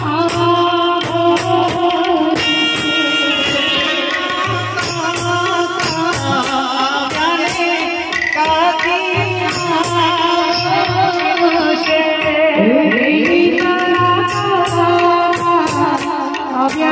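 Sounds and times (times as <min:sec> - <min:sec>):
hand drums: 0:00.0 - 0:16.9
person singing into a microphone: 0:00.0 - 0:16.9.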